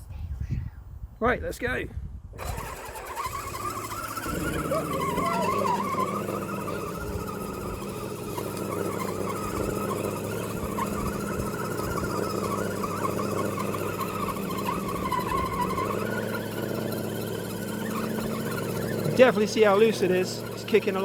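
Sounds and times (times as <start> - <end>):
electric motor and gears whining: 2.3 - 21.0.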